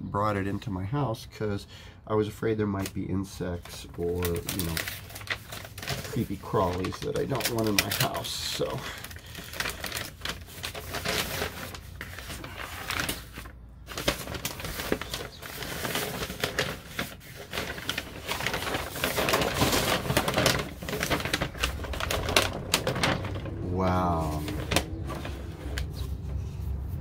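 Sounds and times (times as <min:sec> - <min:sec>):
paper rustling and tearing: 0:02.8 - 0:27.0.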